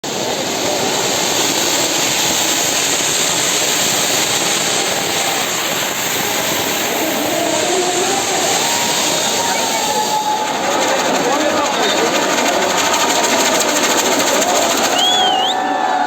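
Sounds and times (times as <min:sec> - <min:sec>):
fireworks roaring and hissing: 0:00.0 - 0:16.0.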